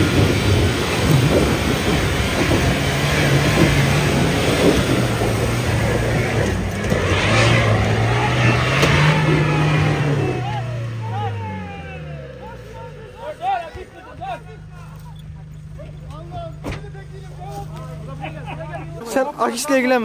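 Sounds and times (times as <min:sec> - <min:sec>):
truck engine running under load: 0:00.0 - 0:20.0
truck working through dirt: 0:00.0 - 0:20.0.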